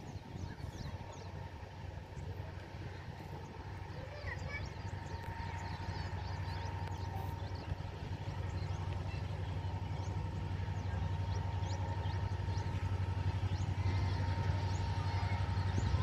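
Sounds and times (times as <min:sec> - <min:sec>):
locomotive engine rumbling: 0:00.0 - 0:16.0.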